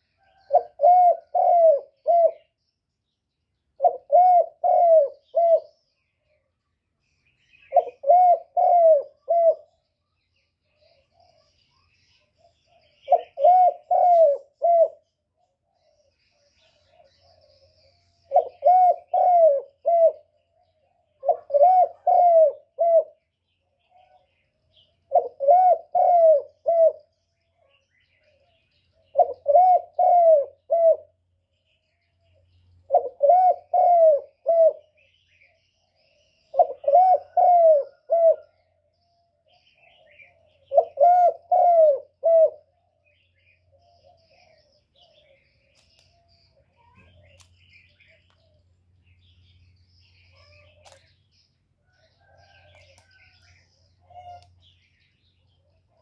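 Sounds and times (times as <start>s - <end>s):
dove cooing: 0.0s - 2.6s, 3.8s - 5.8s, 7.5s - 9.8s, 12.3s - 31.2s, 32.2s - 48.6s, 50.1s - 51.1s, 51.9s - 56.0s.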